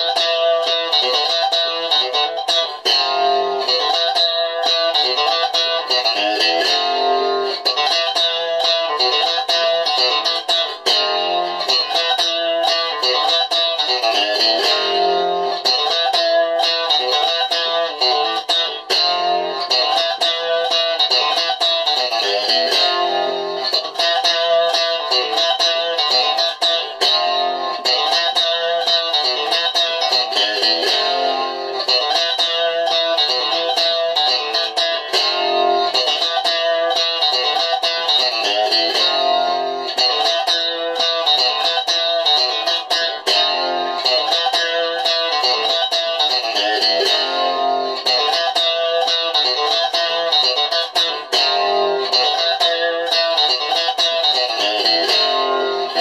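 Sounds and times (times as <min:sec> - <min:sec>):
electric guitar picked notes: 0:00.0 - 0:56.0.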